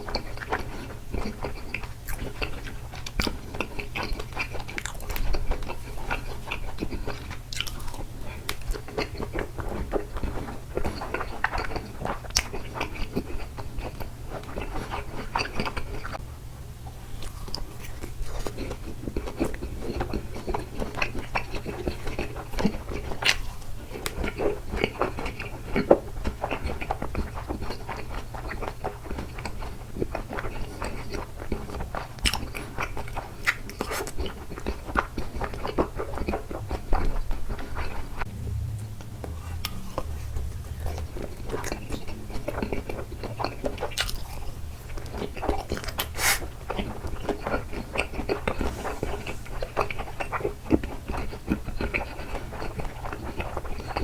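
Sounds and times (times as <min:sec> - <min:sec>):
chewing and mouth clicks: 0:00.0 - 0:16.2, 0:17.1 - 0:38.3, 0:39.0 - 0:54.0
steady low hum: 0:00.0 - 0:54.0.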